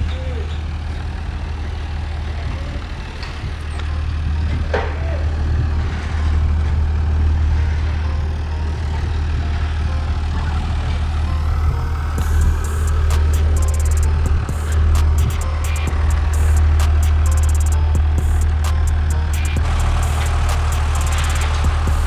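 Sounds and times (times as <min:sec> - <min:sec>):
heavy engine humming: 0:00.0 - 0:22.0.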